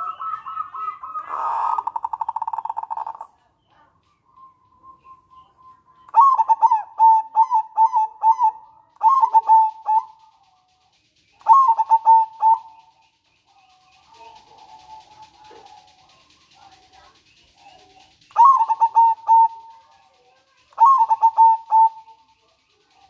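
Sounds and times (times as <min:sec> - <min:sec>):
dove trilling and cooing: 0:00.0 - 0:23.0.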